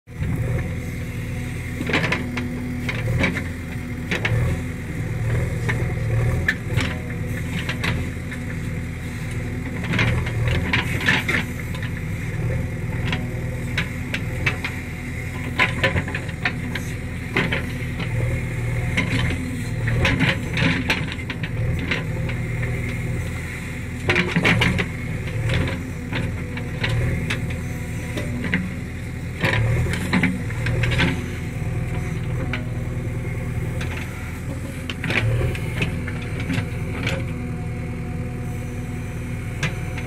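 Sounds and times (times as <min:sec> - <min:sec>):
diesel engine under load: 0:00.1 - 0:40.0.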